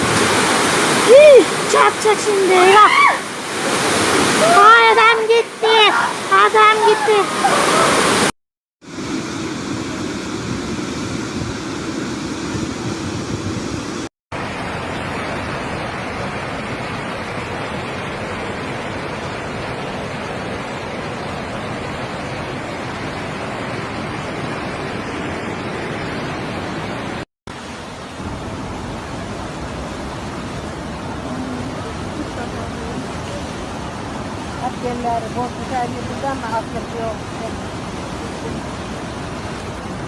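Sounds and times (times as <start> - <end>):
flood water rushing: 0.0 - 40.0.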